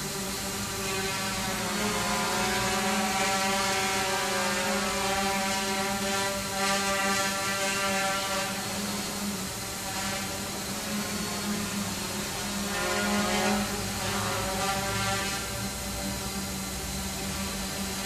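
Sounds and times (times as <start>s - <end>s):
quadcopter hovering buzz: 0.0s - 18.0s.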